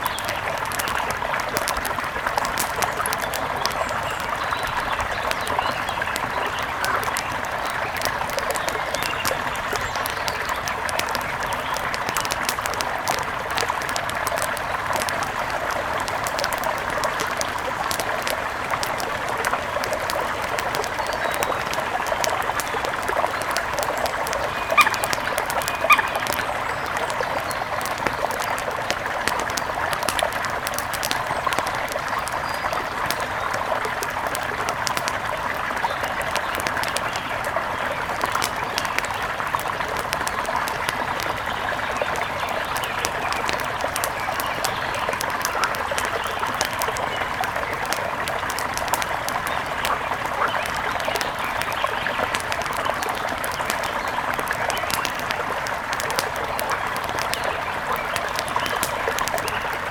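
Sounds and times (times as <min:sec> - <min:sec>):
river water running: 0:00.0 - 0:59.9
wood fire crackling: 0:00.0 - 0:59.9.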